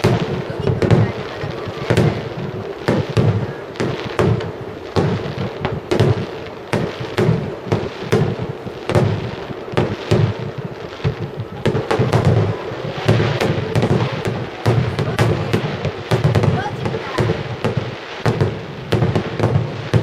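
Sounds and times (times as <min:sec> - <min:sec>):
continuous rumble: 0:00.2 - 0:18.0.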